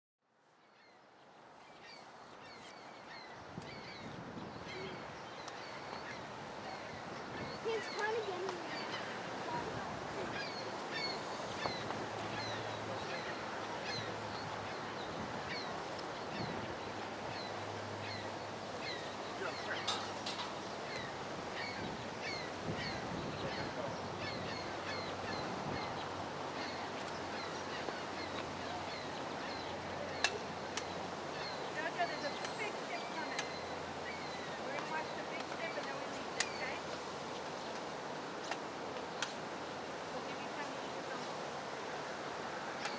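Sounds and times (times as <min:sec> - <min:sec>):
small birds chirping: 0:00.5 - 0:38.0.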